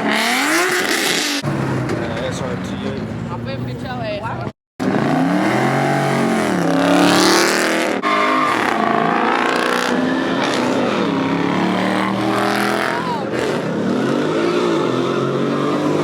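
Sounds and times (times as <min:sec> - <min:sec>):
car engine revving: 0:00.0 - 0:04.2, 0:04.8 - 0:16.0.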